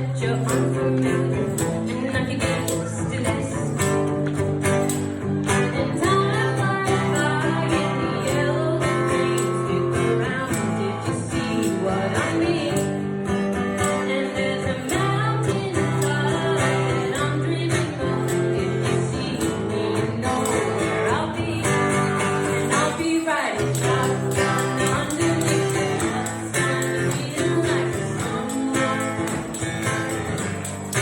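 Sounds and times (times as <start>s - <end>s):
person singing: 0.0s - 31.0s
strummed guitar: 0.0s - 31.0s
tambourine: 0.0s - 31.0s.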